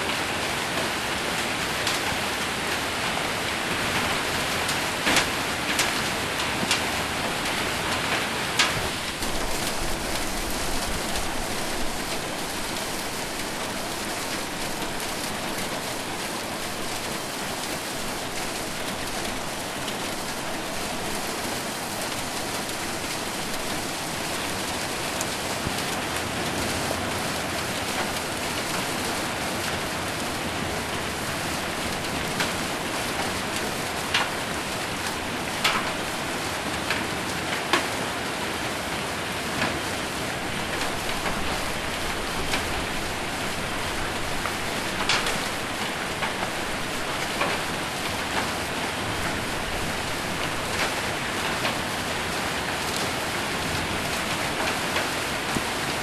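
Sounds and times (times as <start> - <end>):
hail strikes on a roof: 0.0 - 56.0
heavy rain on a roof: 0.0 - 56.0.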